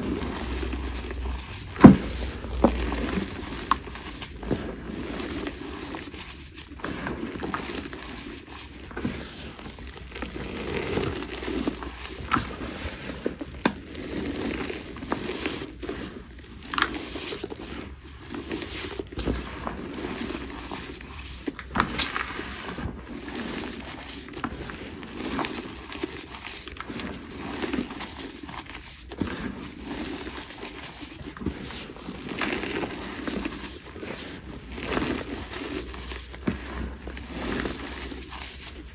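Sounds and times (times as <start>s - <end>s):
chalk crunching between hands: 0.0s - 38.9s.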